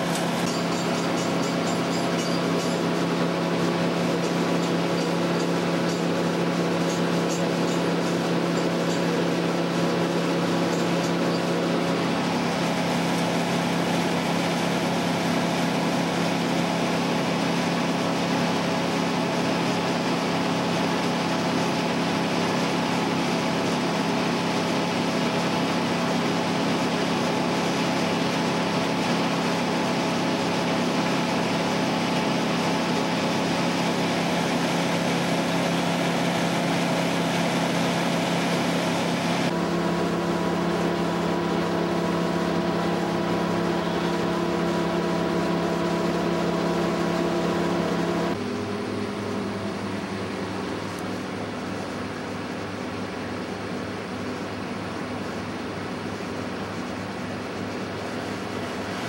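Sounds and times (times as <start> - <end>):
engine droning steadily: 0.0 - 59.0.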